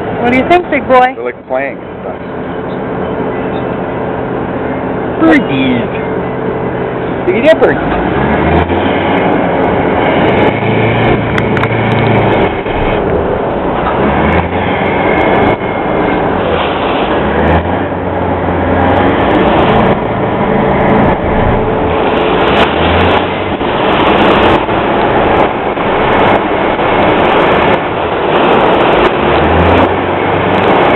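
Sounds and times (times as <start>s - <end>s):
ferry engine running: 0.0s - 30.9s
wind buffeting microphone: 0.0s - 30.9s.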